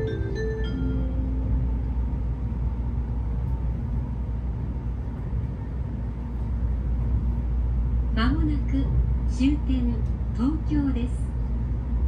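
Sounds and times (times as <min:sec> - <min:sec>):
train cabin running noise: 0:00.0 - 0:12.0.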